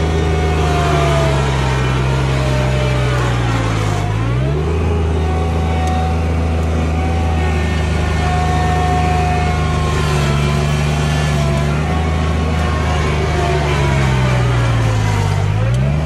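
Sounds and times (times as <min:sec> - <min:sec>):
tractor diesel engine running hard: 0:00.0 - 0:16.0.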